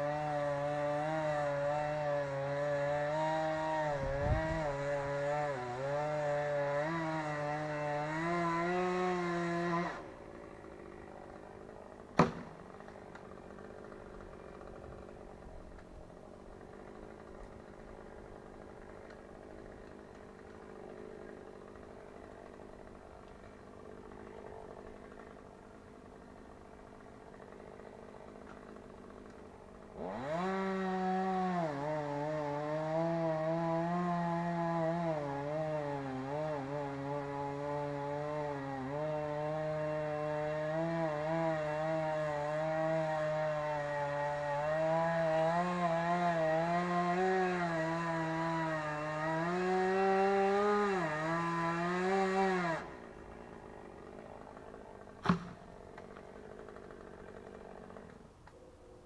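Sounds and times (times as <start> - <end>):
chainsaw cutting wood: 0.0 - 58.6.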